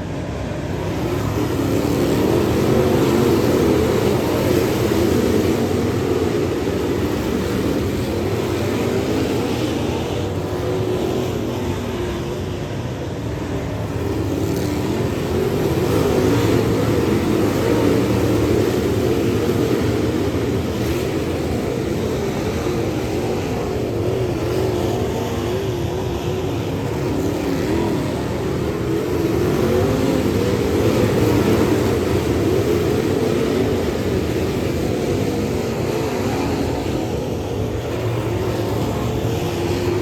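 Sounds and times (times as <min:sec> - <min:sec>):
race car engine at speed: 0:00.0 - 0:40.0.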